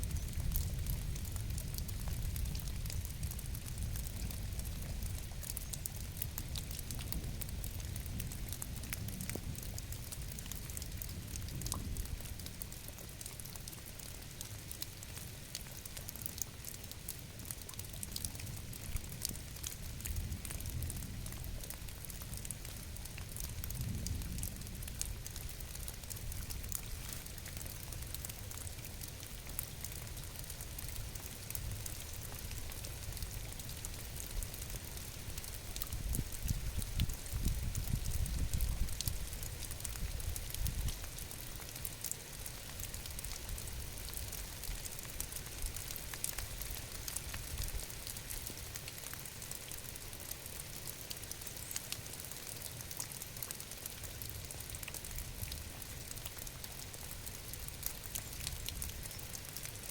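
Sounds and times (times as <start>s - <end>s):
raindrops pattering: 0.0s - 59.9s.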